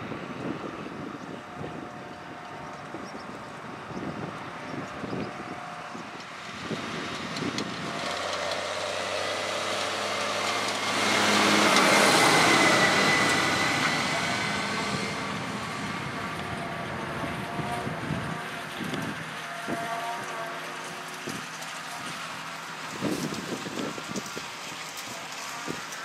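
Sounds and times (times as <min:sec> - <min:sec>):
tractor driving past: 0:00.0 - 0:26.0.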